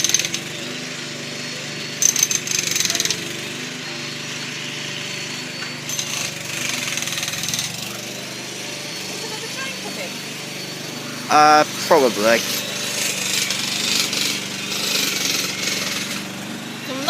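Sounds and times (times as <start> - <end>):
engine drone: 0.0 - 17.0
jackhammer hammering: 0.0 - 17.0.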